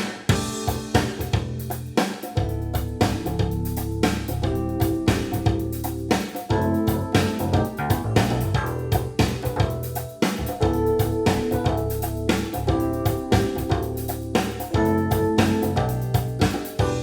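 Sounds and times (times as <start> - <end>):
regular beat: 0.0 - 17.0
steady bass line: 0.4 - 17.0.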